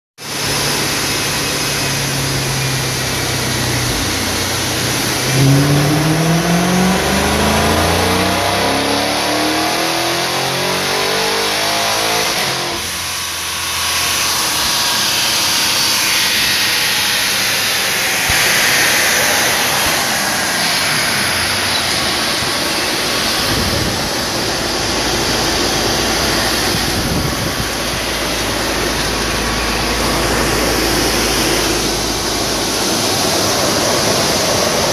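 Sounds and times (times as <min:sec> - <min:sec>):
car engine full-throttle pull: 0:00.2 - 0:34.9
dyno rollers winding down: 0:00.2 - 0:34.9
high supercharger whine: 0:00.2 - 0:34.9.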